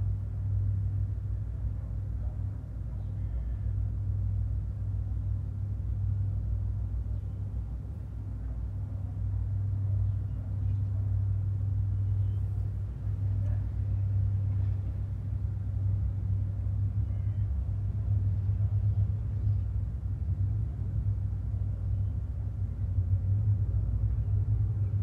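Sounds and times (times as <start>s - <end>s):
distant boat engines: 0.0s - 25.0s
road traffic rumble: 0.0s - 25.0s.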